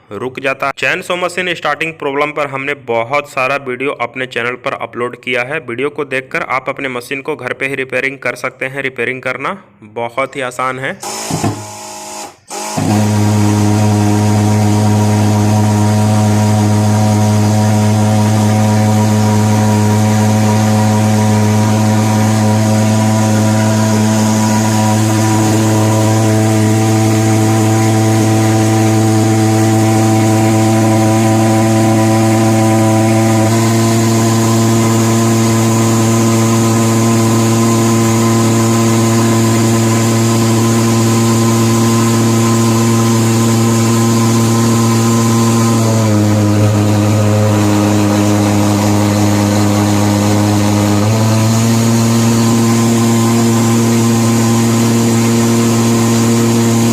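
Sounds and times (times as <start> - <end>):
pulse-jet engine buzzing drone: 11.0 - 56.9.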